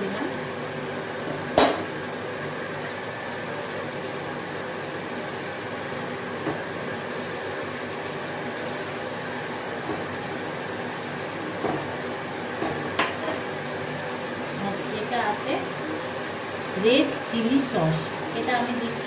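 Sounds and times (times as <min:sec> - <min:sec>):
kitchen background hiss: 0:00.0 - 0:19.0.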